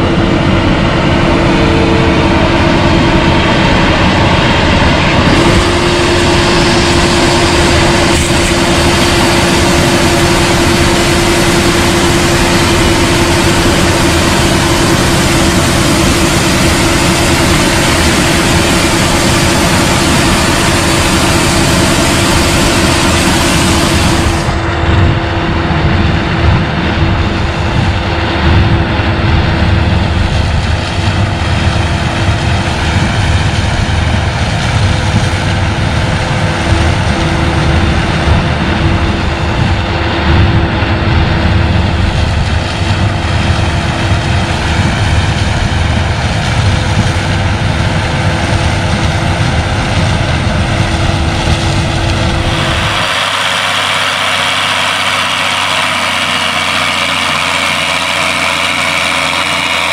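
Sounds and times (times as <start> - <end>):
farm machinery engine rumble: 0.0 - 59.9.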